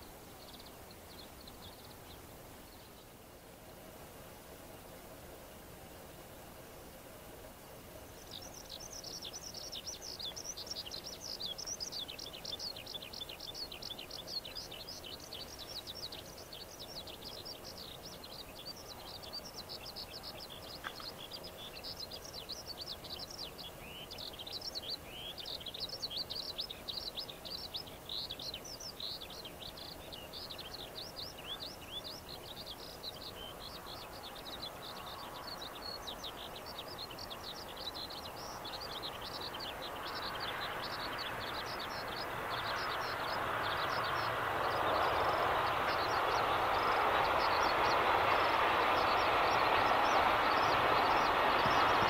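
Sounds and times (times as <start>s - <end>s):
small birds chirping: 0.0s - 3.2s, 8.0s - 52.0s
distant freight train: 6.0s - 52.0s.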